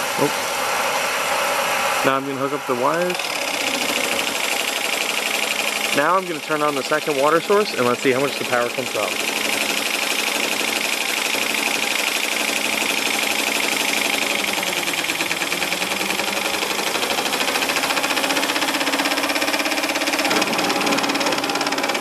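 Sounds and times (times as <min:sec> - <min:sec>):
generator hum rising in pitch: 0:00.0 - 0:22.0
fast mechanical rattle: 0:02.1 - 0:22.0.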